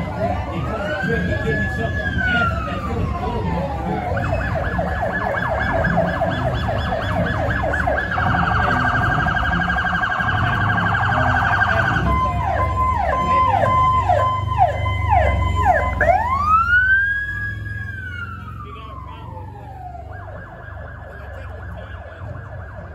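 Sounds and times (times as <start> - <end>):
police motorcycle sirens: 0.0 - 22.9.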